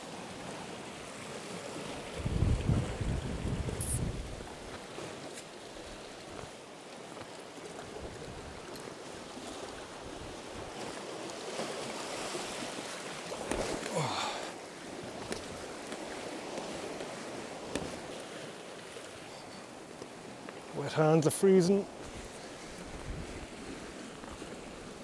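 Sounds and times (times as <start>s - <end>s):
sea washing over rocks: 0.0s - 21.0s.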